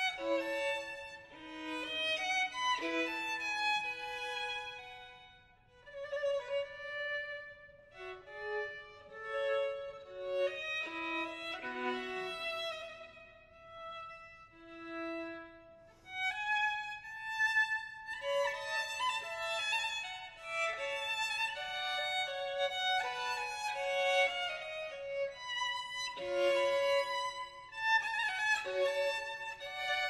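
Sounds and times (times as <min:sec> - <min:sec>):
violin playing: 0:00.0 - 0:30.0.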